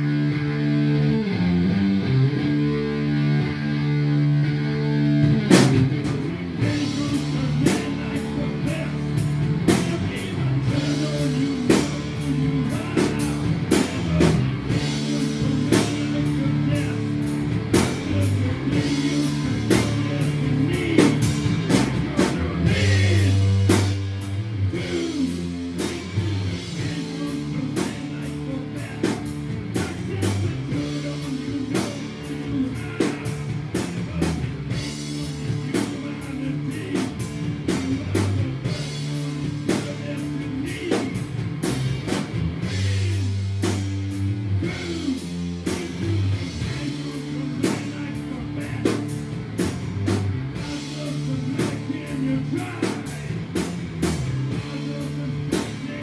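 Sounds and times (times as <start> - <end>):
electric guitar: 0.0 - 56.0
drum kit beat: 2.1 - 56.0
man singing: 6.0 - 43.9, 44.5 - 49.8, 50.5 - 56.0.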